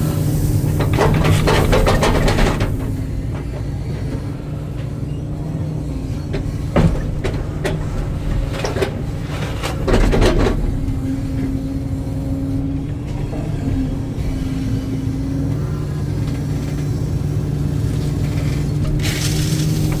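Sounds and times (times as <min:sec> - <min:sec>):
excavator diesel engine running: 0:00.0 - 0:20.0
machine knocks and clanks: 0:00.5 - 0:05.2, 0:05.8 - 0:17.3.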